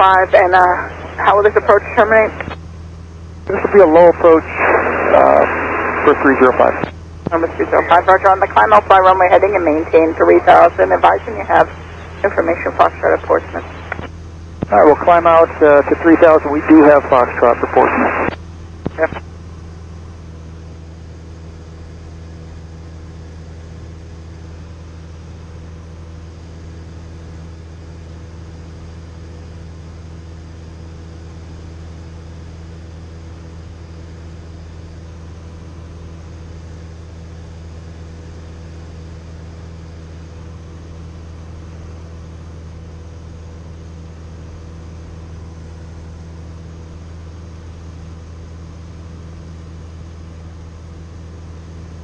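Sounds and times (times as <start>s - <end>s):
airplane engine drone in cabin: 0.0s - 52.0s.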